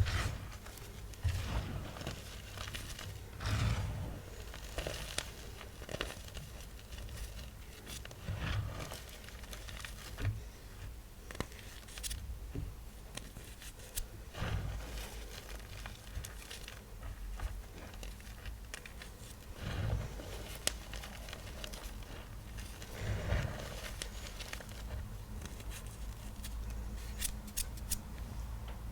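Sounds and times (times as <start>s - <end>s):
chalk blocks crunching: 0.0s - 10.4s, 13.1s - 28.0s.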